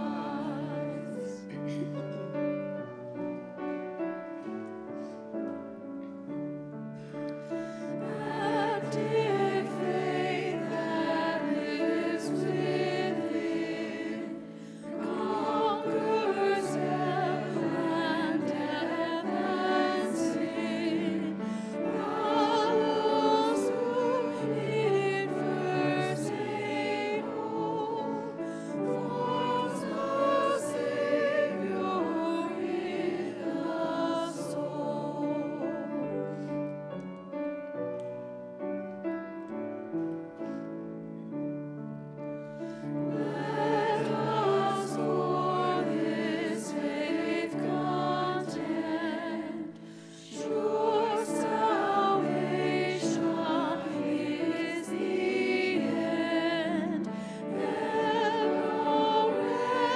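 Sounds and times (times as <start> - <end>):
choir singing: 0.0 - 5.9, 6.6 - 37.8, 42.2 - 59.9
piano accompaniment: 0.0 - 59.9.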